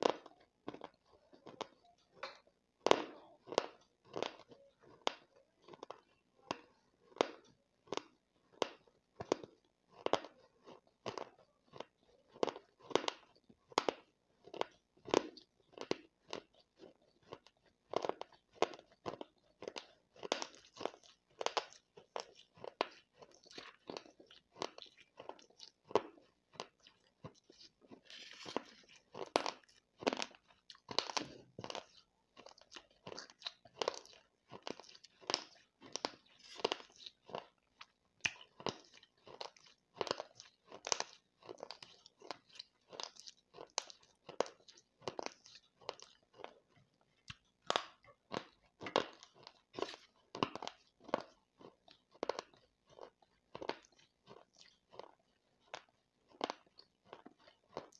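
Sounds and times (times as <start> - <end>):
person chewing gritty clay: 0.0 - 57.9.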